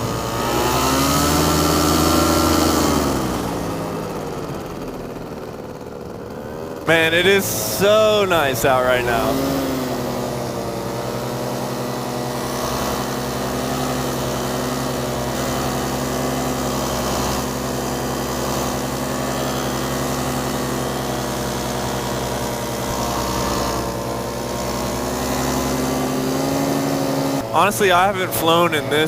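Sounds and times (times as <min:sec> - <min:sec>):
paramotor engine running: 0:00.0 - 0:29.0.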